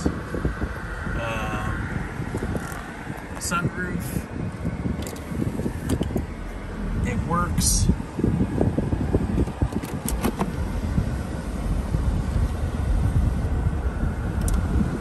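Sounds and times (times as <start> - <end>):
low uneven car interior rumble: 0.0 - 15.0.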